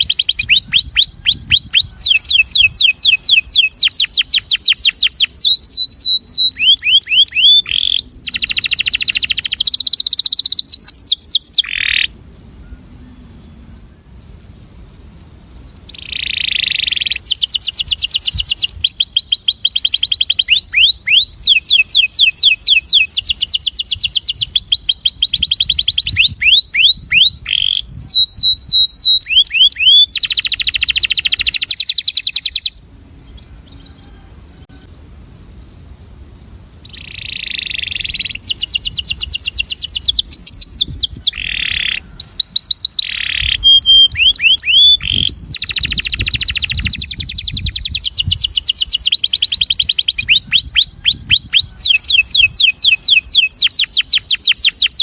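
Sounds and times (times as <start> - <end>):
canary singing trills: 0.0 - 35.3, 36.4 - 55.0.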